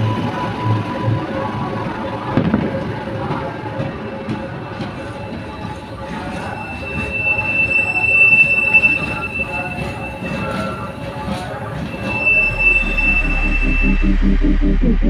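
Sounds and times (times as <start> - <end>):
train wheels rumbling on rail: 0.0 - 13.9
high wheel squeal: 0.0 - 14.3
background music: 0.0 - 15.0.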